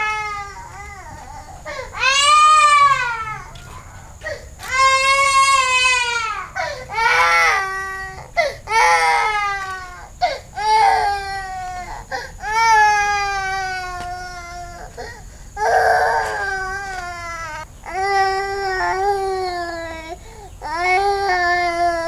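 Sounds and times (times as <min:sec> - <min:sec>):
baby crying: 0:00.0 - 0:22.0.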